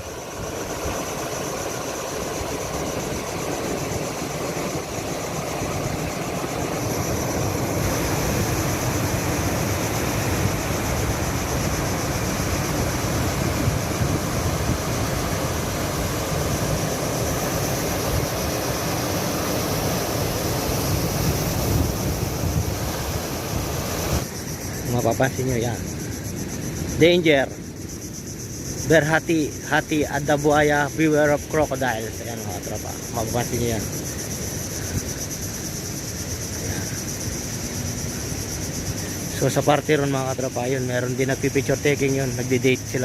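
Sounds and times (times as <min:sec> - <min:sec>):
wind rumbling on microphone: 0:00.0 - 0:39.4
rough sea waves washing in: 0:00.0 - 0:43.0.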